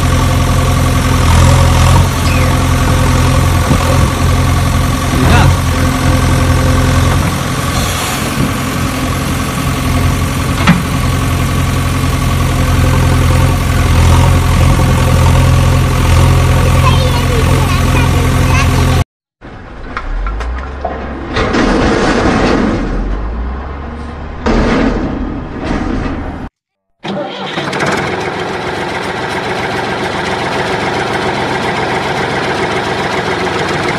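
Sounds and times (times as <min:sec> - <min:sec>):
engine idling: 0:00.0 - 0:21.4, 0:27.0 - 0:33.9.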